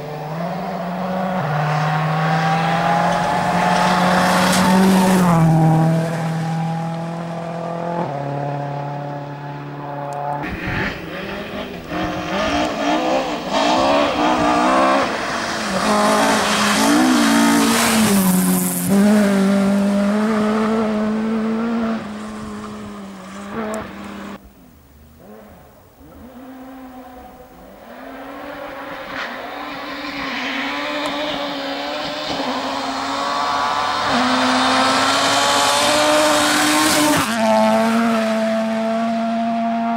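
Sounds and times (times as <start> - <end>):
rally car engine revving: 0.0 - 24.4, 25.2 - 39.9
car engine approaching: 0.0 - 39.9.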